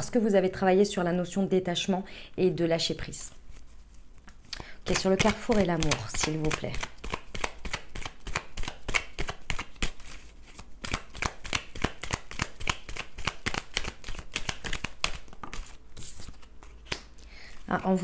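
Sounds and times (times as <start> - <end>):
cards being shuffled: 3.2 - 18.0.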